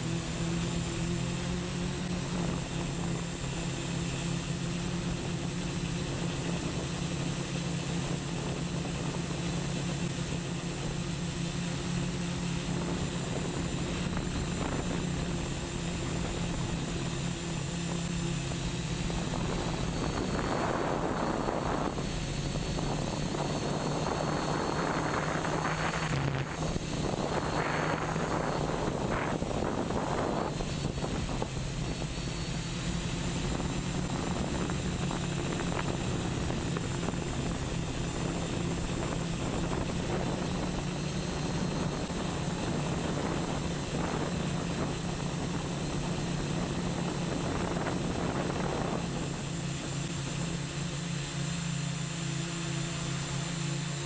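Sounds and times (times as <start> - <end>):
drone motors humming: 0.0 - 54.0
thin high whine: 0.0 - 54.0.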